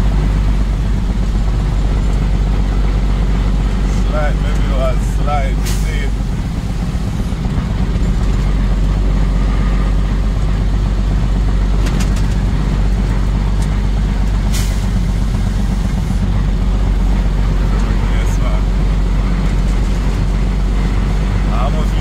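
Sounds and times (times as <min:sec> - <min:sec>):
truck engine driving: 0:00.0 - 0:22.0.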